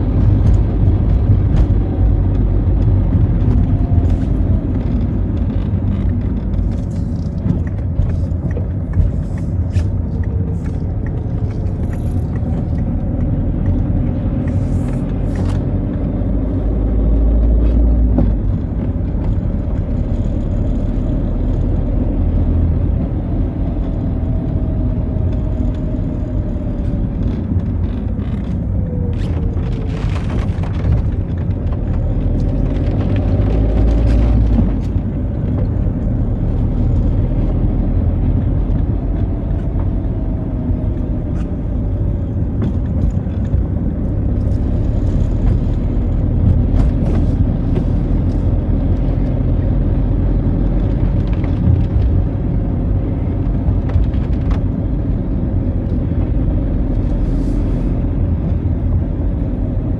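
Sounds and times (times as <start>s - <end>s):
car engine rumble: 0.0s - 59.9s
tyres on wet road: 0.0s - 59.9s.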